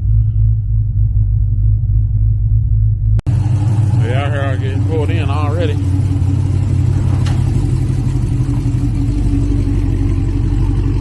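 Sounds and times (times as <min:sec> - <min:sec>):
car engine and exhaust drone: 0:00.0 - 0:11.0.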